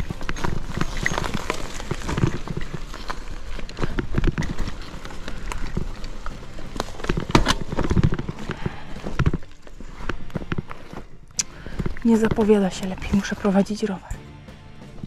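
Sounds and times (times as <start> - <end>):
mountain bike rattling over stones: 0.0 - 14.0.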